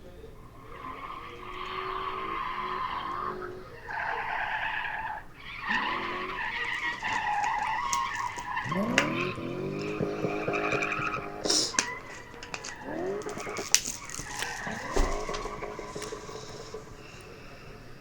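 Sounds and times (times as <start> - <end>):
car engine revving: 0.0 - 18.0
tyres squealing: 0.0 - 18.0.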